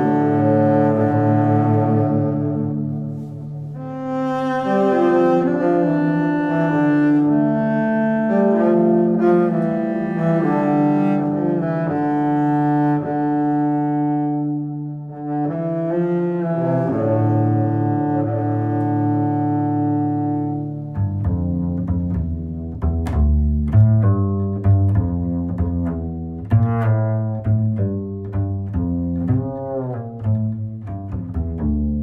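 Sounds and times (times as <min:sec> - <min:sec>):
slow music of held low notes: 0:00.0 - 0:32.0.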